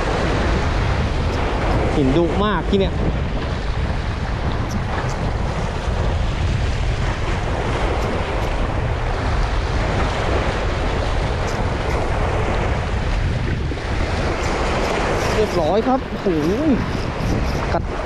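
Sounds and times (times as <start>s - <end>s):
waves washing against shore: 0.0s - 18.0s
wind buffeting microphone: 0.0s - 18.0s.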